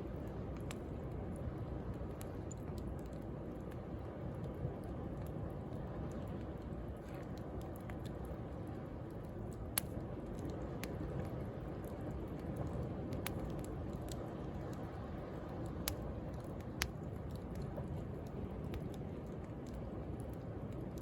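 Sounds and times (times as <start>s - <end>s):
bonfire crackling and popping: 0.0s - 21.0s.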